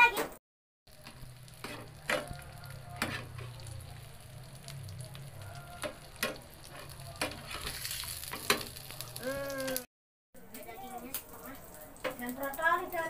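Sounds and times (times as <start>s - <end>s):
patties sizzling in pan: 0.9s - 9.9s, 10.5s - 13.0s.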